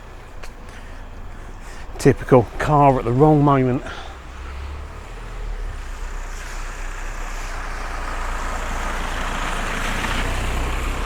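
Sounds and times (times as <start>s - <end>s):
car engine rumble: 0.0s - 11.0s
tyres hissing on wet road: 0.0s - 11.0s.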